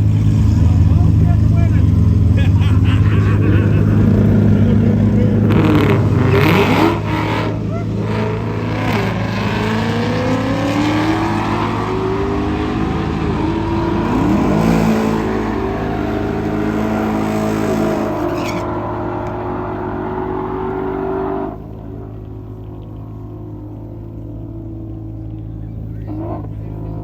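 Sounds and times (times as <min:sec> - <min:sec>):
racing car engine accelerating: 0:00.0 - 0:27.0.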